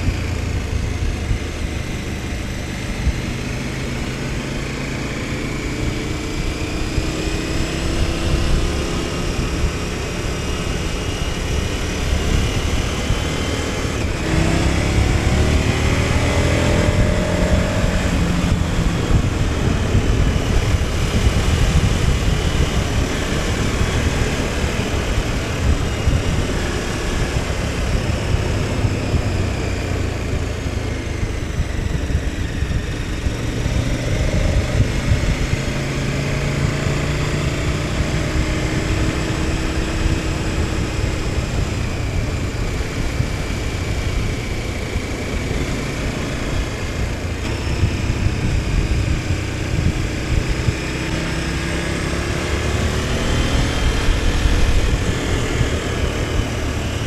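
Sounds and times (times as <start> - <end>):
motorcycle engine running: 0.0 - 57.0
wind rush: 4.6 - 57.0.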